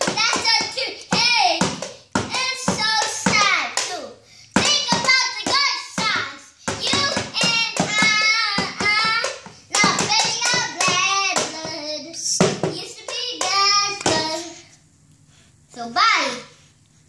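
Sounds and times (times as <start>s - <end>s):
boy singing: 0.2s - 14.6s.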